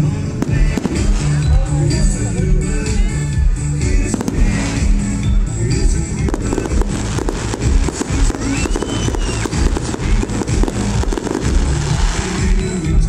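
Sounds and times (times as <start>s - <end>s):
loud music with heavy bass: 0.0s - 13.0s
fireworks bursting and crackling: 0.2s - 13.0s.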